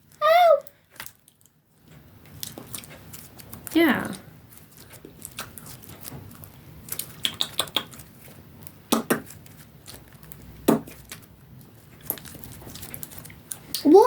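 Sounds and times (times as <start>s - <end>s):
slime kneaded by hand: 0.0s - 14.0s.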